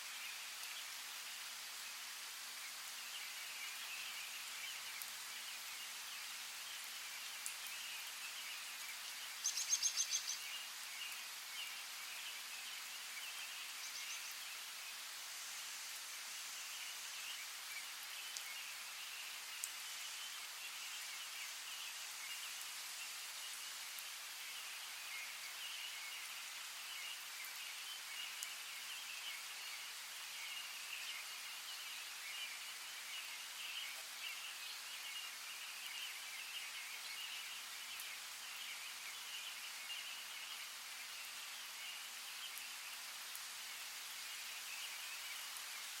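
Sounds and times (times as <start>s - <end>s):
hiss of water or rain: 0.0s - 46.0s.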